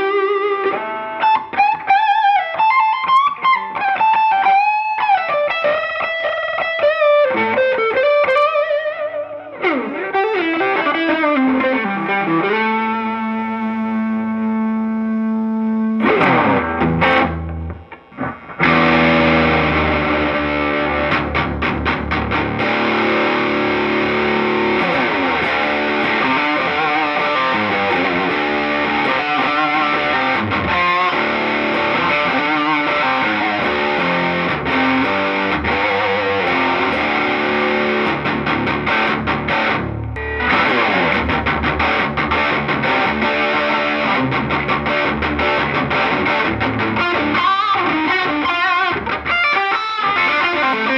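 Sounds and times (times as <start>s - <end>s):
electric guitar riffing: 0.0s - 50.9s.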